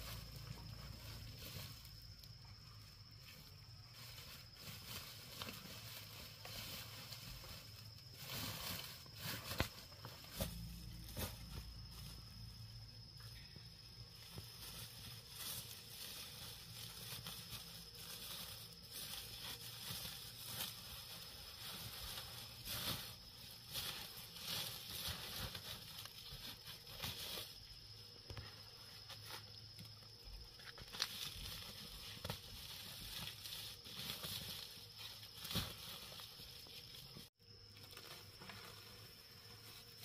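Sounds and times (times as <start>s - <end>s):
plastic sack rustling and crinkling: 3.5s - 13.1s, 13.9s - 40.0s.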